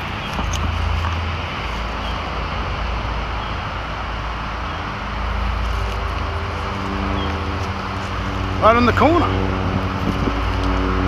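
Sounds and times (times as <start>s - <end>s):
vehicle and road noise: 0.0s - 11.0s.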